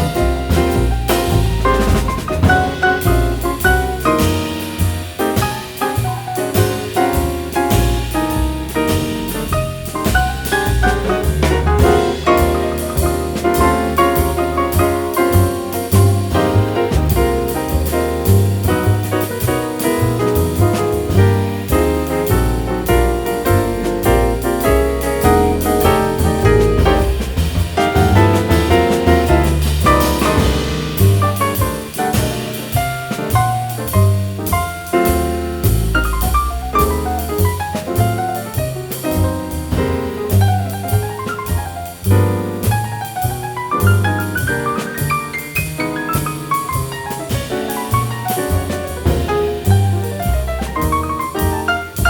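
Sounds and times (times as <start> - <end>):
jazz with bass drums and piano: 0.0 - 52.0.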